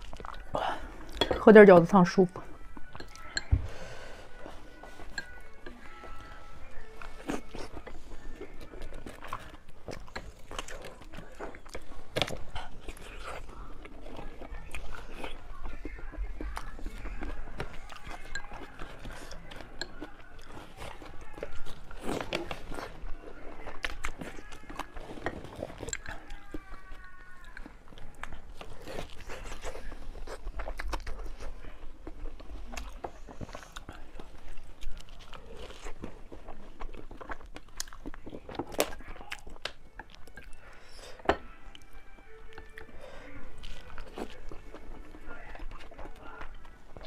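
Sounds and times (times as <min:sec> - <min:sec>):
person chewing food: 0:00.0 - 0:47.0.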